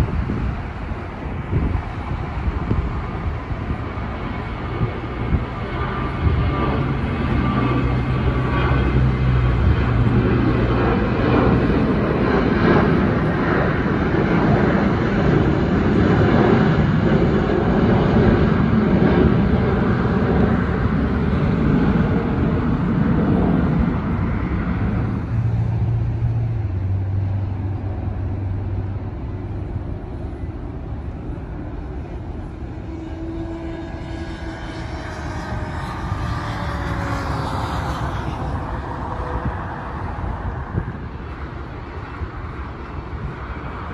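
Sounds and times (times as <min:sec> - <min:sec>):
jet airliner engines roaring: 0:00.0 - 0:43.9.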